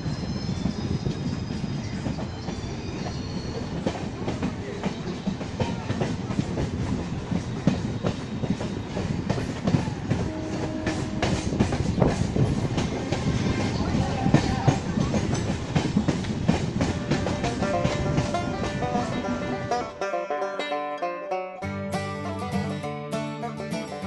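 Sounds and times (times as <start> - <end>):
wheels clickety-clack over rail joints: 0.0 - 20.0
train low rumble: 0.0 - 20.5.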